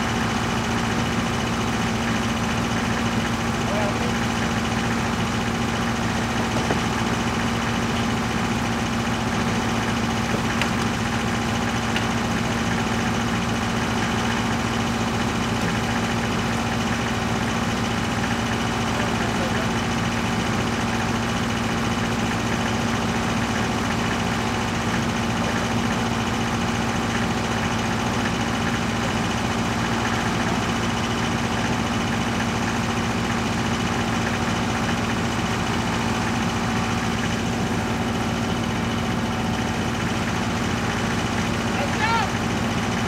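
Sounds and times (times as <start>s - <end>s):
excavator engine idling: 0.0s - 43.0s.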